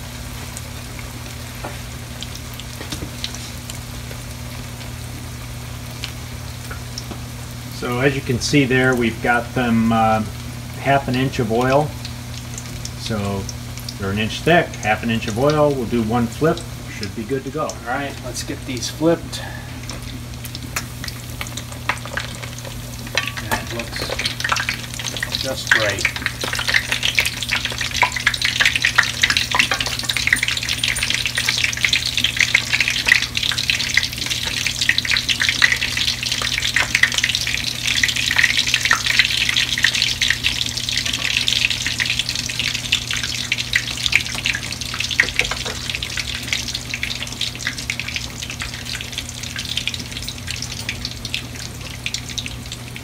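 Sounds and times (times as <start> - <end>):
fish cakes sizzling in oil: 0.0 - 53.0
steady low hum: 0.0 - 53.0.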